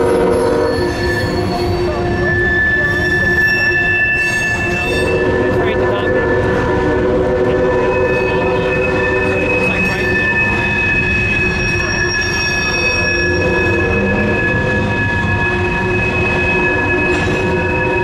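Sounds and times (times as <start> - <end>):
high wheel squeal: 0.0 - 18.0
train wheels rumbling on rail: 0.0 - 18.0.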